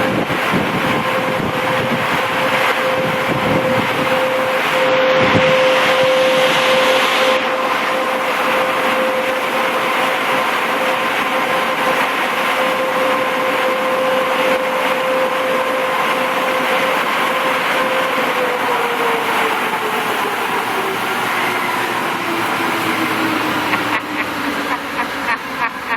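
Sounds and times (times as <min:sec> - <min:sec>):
car wash machinery rushing: 0:00.0 - 0:25.9.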